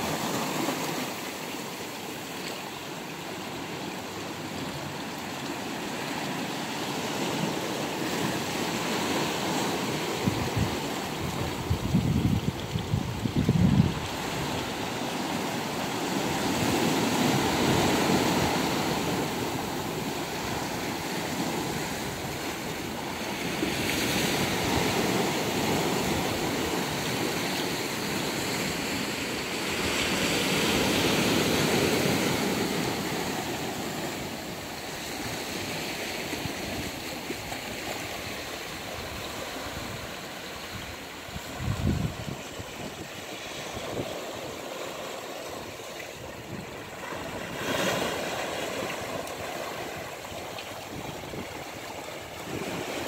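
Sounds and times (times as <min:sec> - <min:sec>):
sea waves washing over rocks: 0:00.0 - 0:53.0.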